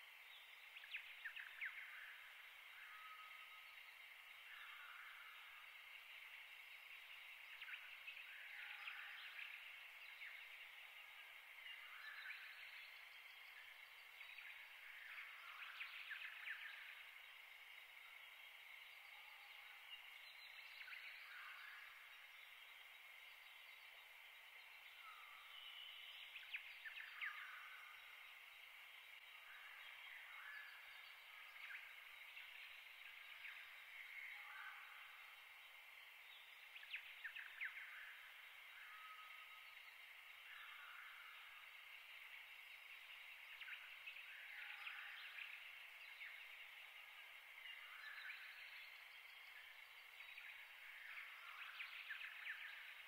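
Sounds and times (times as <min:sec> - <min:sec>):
faint background hiss: 0:00.0 - 0:53.0.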